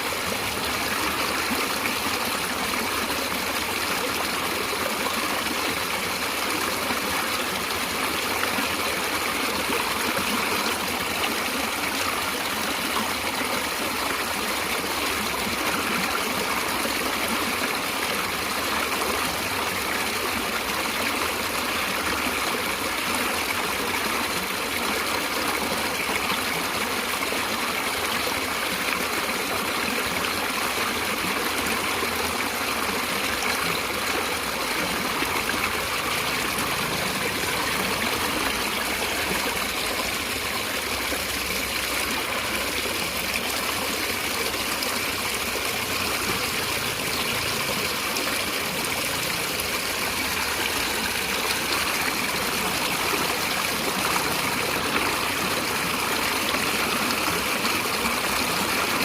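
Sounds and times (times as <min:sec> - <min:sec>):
running water flowing: 0:00.0 - 0:59.0.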